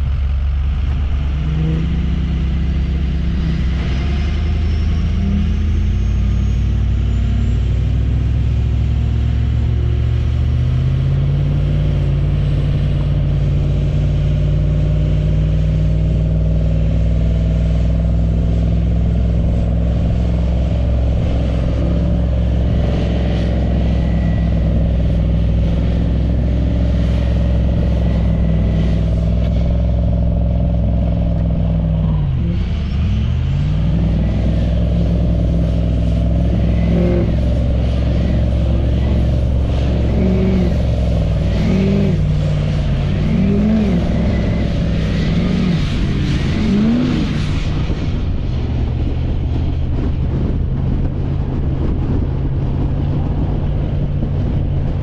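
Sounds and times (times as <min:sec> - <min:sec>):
vehicle engine running under load: 0:00.0 - 0:55.0.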